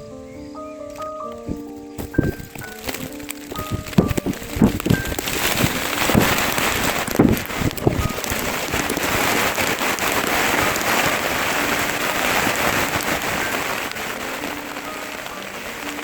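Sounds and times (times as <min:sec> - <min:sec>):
faint musical notes: 0:00.0 - 0:16.0
heavy rain falling: 0:00.9 - 0:16.0.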